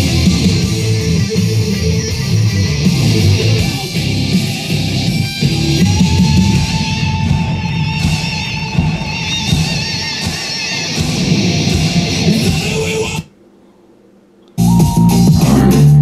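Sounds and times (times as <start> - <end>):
guitar-led rock music on radio: 0.0 - 13.3.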